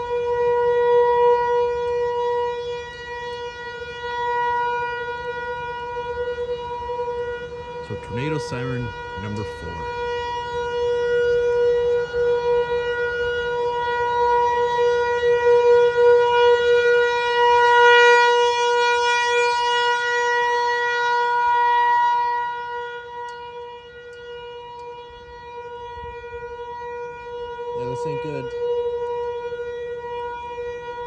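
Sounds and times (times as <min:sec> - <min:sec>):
warning siren steady tone: 0:00.0 - 0:31.0.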